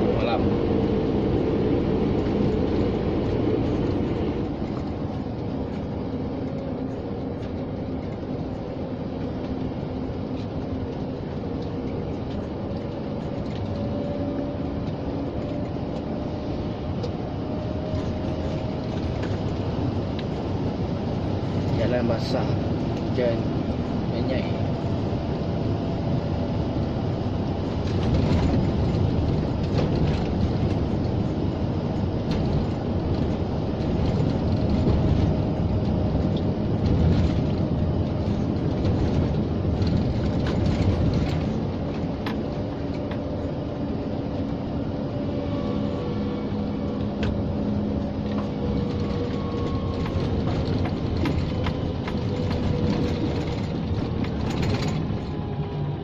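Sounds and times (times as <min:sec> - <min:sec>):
diesel truck engine running: 0:00.0 - 0:56.0
tyres rumbling on wet road: 0:00.0 - 0:56.0.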